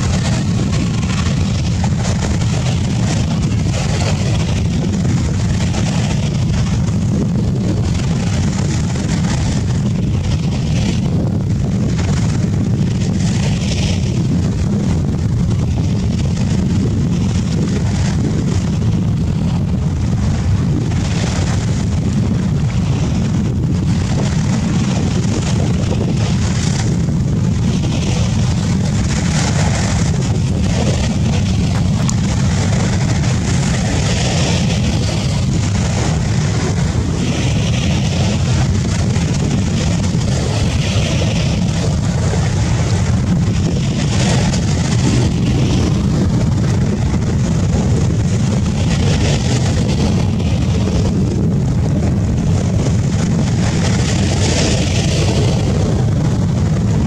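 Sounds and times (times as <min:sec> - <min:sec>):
jet engine rumble with hiss: 0:00.0 - 0:57.0.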